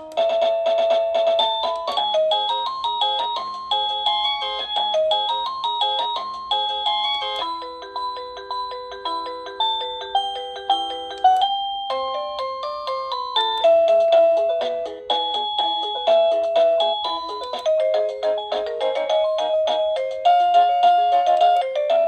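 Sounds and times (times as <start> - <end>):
electronic doorbell chime tunes: 0.0 - 22.0.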